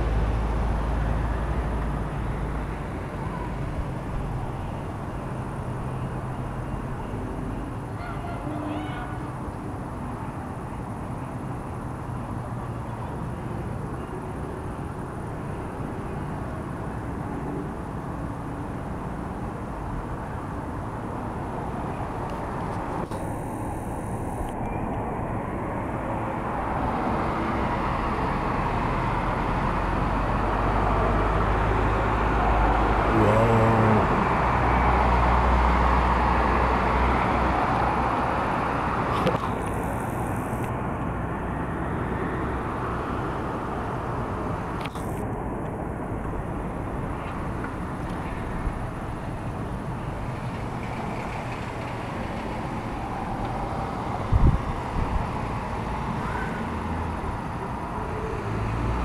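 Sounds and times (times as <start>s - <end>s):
outdoor background noise: 0.0s - 59.0s.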